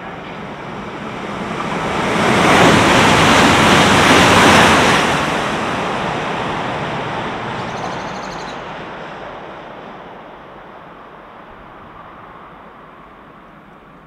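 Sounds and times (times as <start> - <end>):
electric train passing at speed: 0.0 - 14.0.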